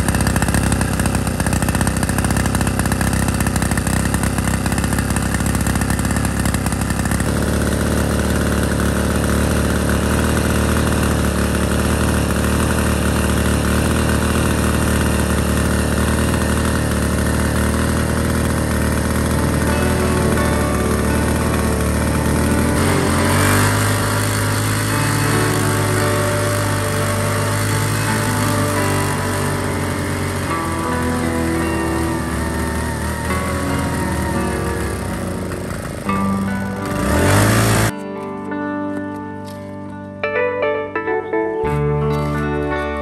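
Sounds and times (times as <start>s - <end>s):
diesel water pump engine running: 0.0s - 37.9s.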